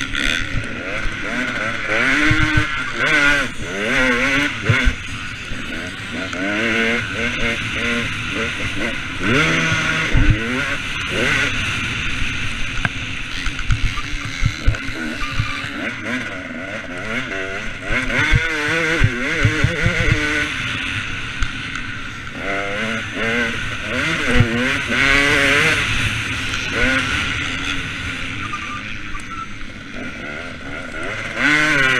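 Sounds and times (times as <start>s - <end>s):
motocross bike engine revving: 0.0s - 31.9s.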